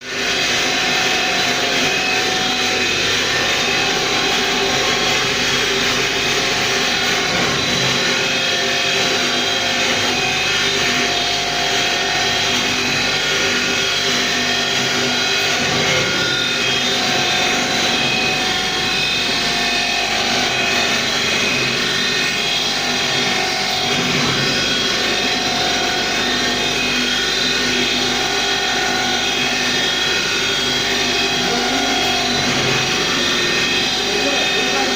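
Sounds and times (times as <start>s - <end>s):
machine mechanical hum: 0.0s - 34.9s
whining tones: 0.1s - 34.9s.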